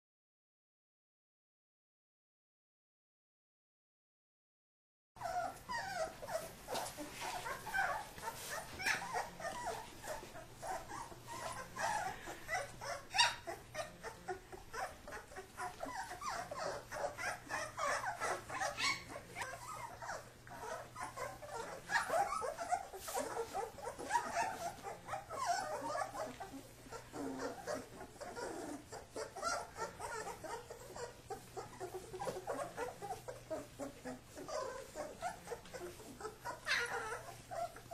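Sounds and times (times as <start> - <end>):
puppies growling and yipping: 5.2 - 37.9.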